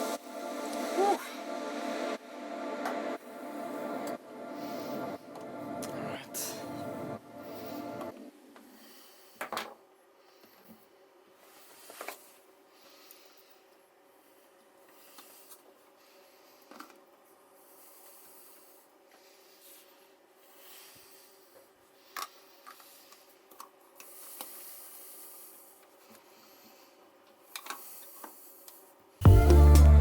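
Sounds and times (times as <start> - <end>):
faint steady hum: 0.0 - 27.7.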